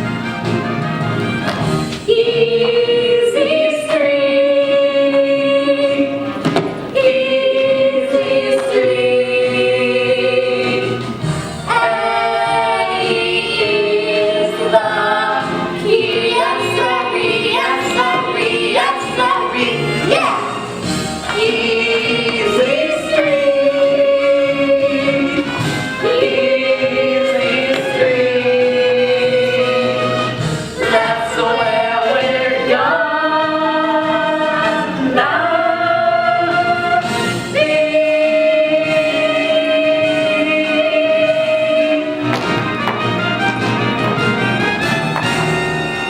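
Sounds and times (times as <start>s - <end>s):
musical accompaniment: 0.0s - 46.0s
young voices singing: 2.0s - 43.0s.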